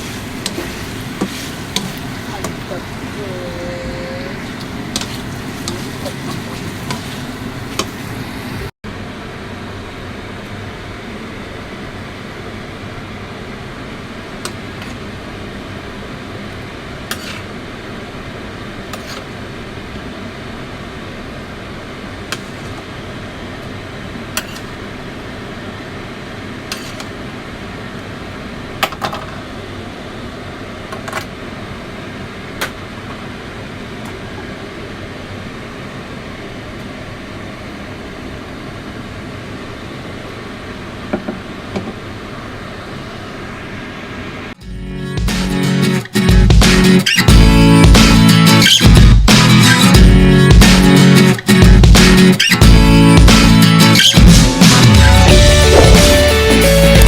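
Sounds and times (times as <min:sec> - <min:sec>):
kitchen fan whirring: 0:00.0 - 0:44.6, 0:45.8 - 0:57.0.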